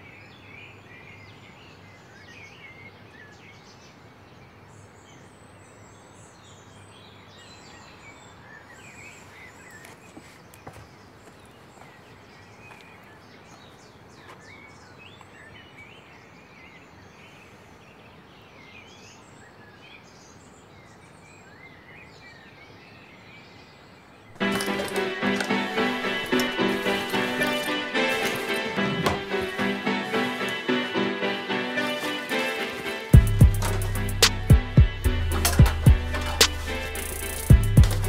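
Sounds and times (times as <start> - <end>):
birds chirping and singing: 4.5 - 38.0.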